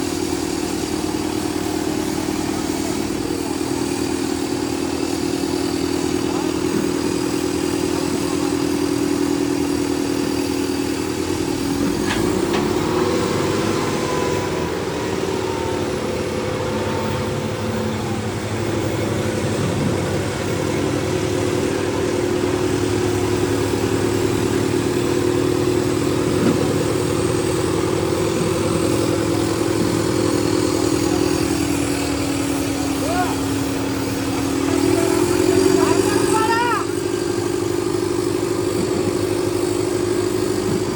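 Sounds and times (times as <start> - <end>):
diesel tractor engines running: 0.0 - 40.9.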